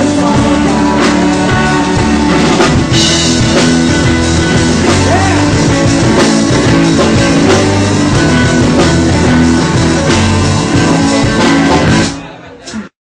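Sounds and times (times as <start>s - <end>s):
drum kit: 0.0s - 12.9s
rock band playing: 0.0s - 12.9s
guitar: 0.0s - 13.0s.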